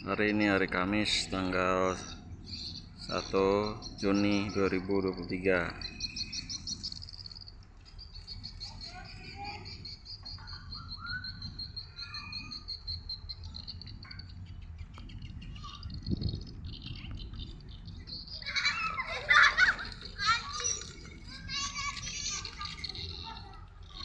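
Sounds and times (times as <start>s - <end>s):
birds chirping: 0.0s - 24.0s
insect trilling: 0.0s - 24.0s
steady low rumble: 0.0s - 24.0s.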